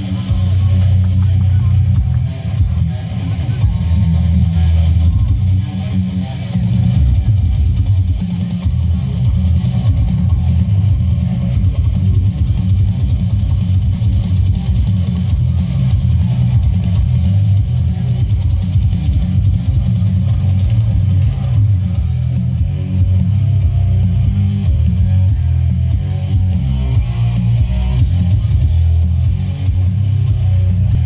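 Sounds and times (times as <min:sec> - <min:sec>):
loud guitar music with heavy bass: 0:00.0 - 0:31.0.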